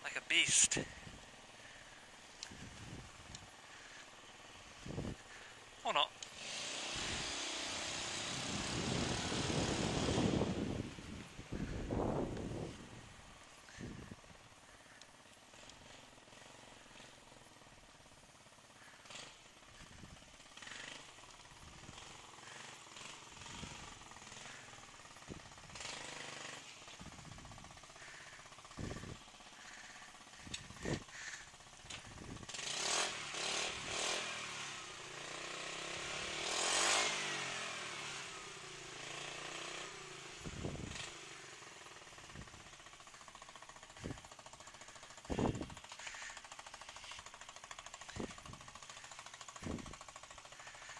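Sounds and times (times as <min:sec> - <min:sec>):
scooter engine running rattly: 0:00.1 - 0:50.9.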